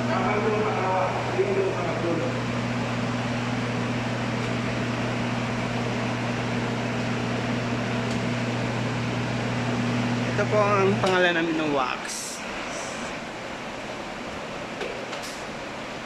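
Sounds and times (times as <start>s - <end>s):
fan humming with hiss: 0.0s - 16.0s.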